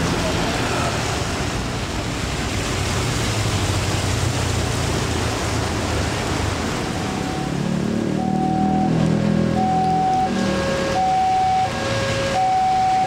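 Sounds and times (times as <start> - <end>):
heavy rain pouring: 0.0 - 13.0
motorcycles passing on wet road: 0.0 - 13.0.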